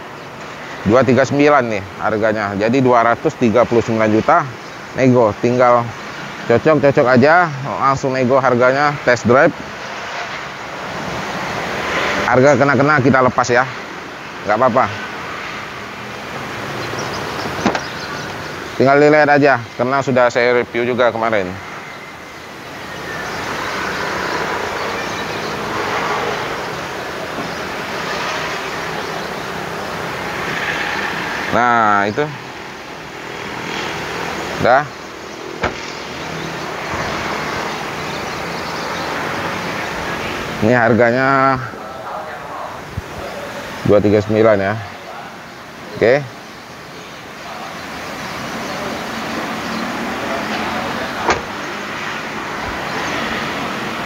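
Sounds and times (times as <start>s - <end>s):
motor vehicle running: 0.0s - 54.0s
passing road traffic: 0.0s - 54.0s.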